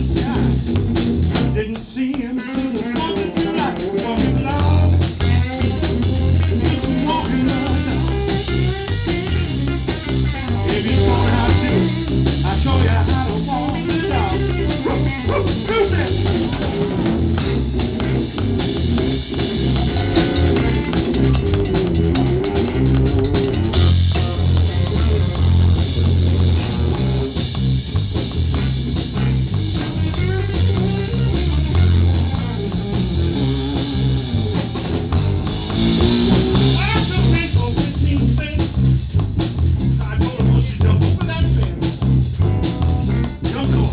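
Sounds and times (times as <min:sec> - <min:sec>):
drum kit: 0:00.0 - 0:43.9
electric guitar: 0:00.0 - 0:43.9.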